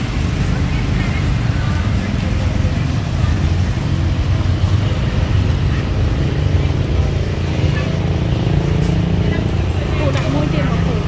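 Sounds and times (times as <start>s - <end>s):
faint voices: 0.0s - 11.0s
low rumble of street noise: 0.0s - 11.0s.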